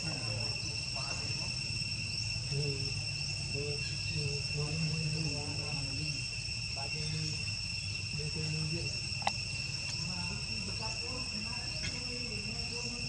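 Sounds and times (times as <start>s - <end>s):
high-pitched insect drone: 0.0s - 13.0s
distant voices talking: 2.4s - 13.0s.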